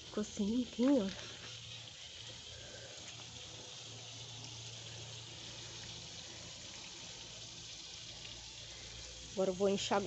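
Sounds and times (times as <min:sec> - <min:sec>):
garden hose spraying onto rug: 0:00.0 - 0:10.0.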